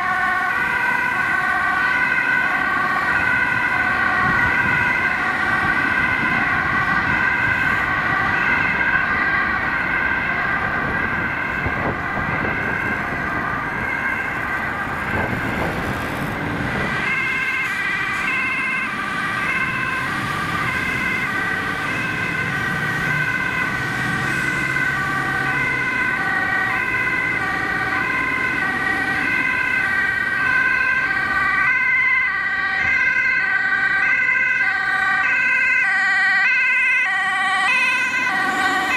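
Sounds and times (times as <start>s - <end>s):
road and engine noise: 0.0s - 38.9s
two-tone ambulance siren: 0.0s - 38.9s.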